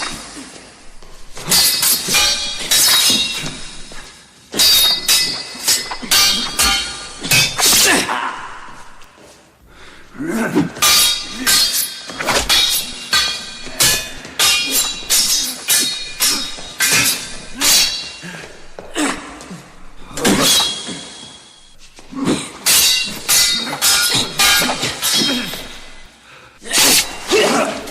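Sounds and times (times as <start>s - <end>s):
steel swords clashing: 0.0s - 9.1s, 10.3s - 27.9s.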